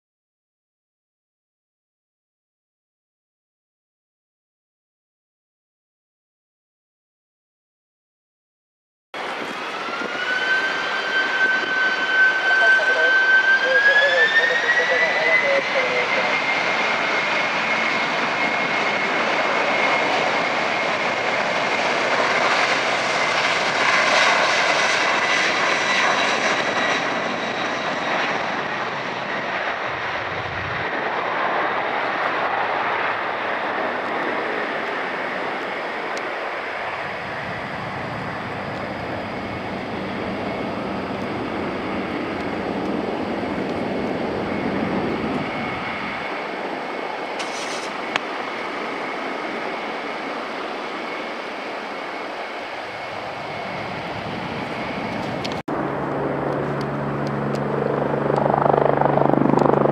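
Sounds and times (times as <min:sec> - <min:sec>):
jet engines at takeoff: 0:09.2 - 0:59.9.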